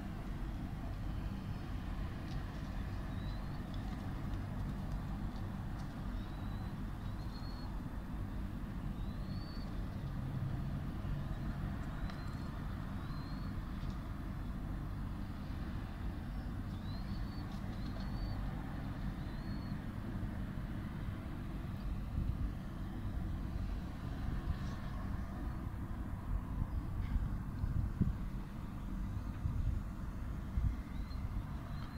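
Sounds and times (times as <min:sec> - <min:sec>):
road traffic rumble: 0:00.0 - 0:31.9.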